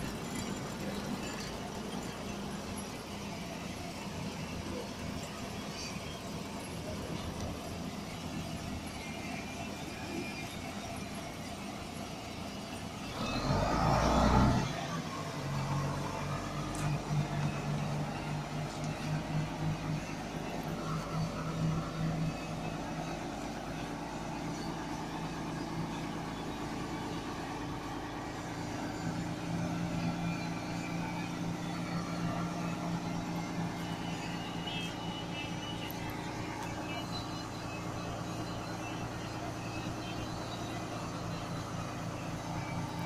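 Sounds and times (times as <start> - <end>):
crane diesel engine running: 0.0 - 43.0.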